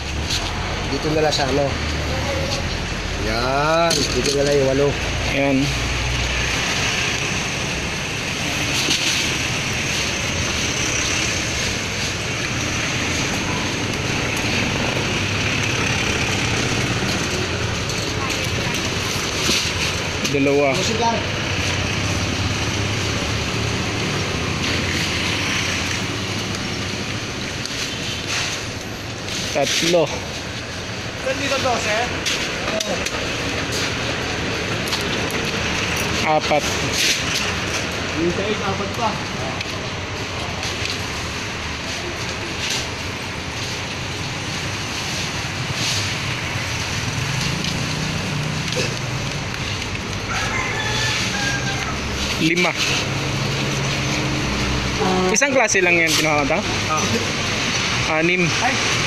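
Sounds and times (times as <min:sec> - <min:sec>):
traffic din: 0:00.0 - 0:59.0.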